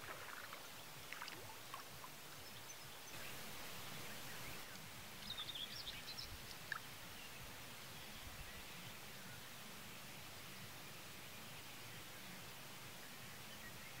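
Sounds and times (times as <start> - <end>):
soft wash of water: 0.0 - 13.5.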